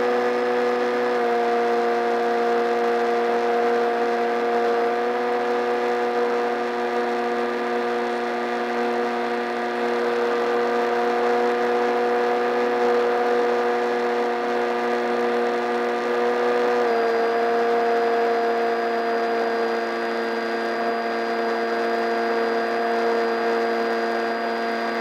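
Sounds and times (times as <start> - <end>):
electric motor and propeller whining: 0.0 - 25.0.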